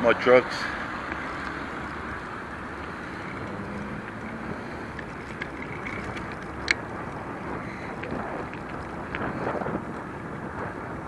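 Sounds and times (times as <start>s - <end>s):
bicycle road noise: 0.0s - 11.0s
wind rush on microphone: 0.0s - 11.0s.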